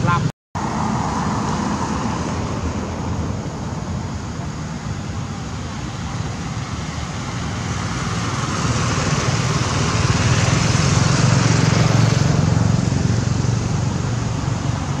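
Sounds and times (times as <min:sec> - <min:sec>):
vehicle engine hum and road noise: 0:00.0 - 0:15.0.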